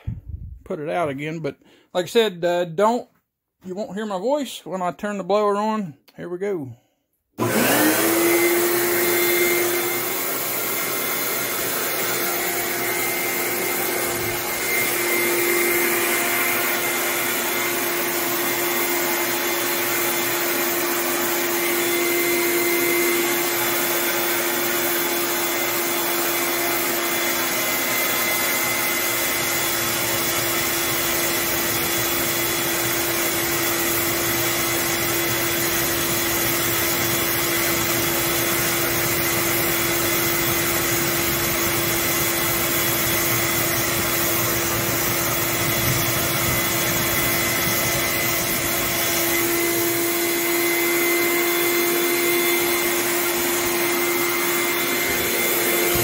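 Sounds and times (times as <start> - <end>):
air blower humming and whining: 7.4 - 56.0.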